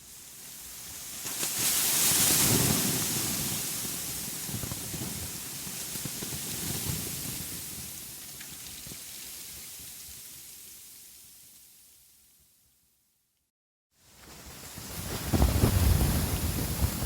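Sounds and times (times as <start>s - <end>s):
rain-like hiss with patter: 0.0s - 12.7s, 14.0s - 17.0s.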